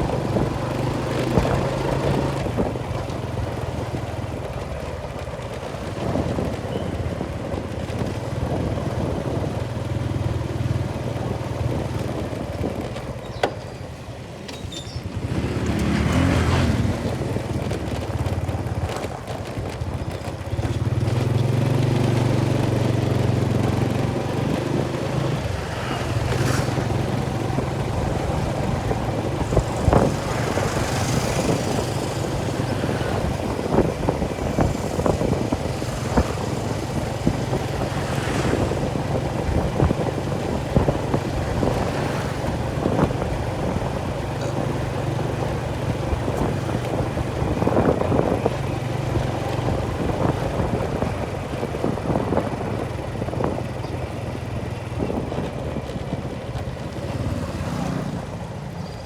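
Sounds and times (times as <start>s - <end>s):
engine running with low hum: 0.0s - 59.0s.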